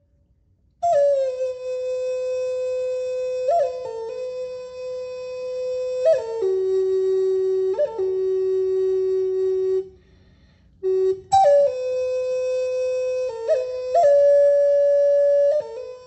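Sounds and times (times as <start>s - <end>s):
wooden flute playing long notes: 0.8s - 16.0s.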